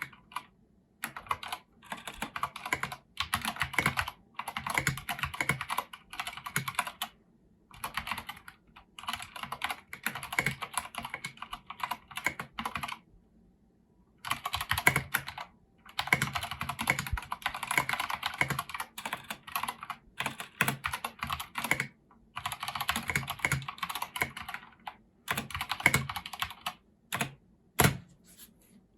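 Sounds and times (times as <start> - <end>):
mechanical keyboard typing: 0.0 - 13.0, 14.2 - 28.1.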